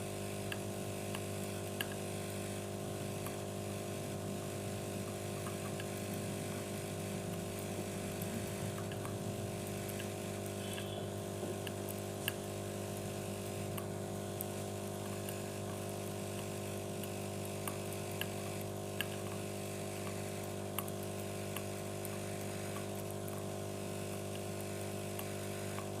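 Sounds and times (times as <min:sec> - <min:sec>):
machine-like hum: 0:00.0 - 0:26.0.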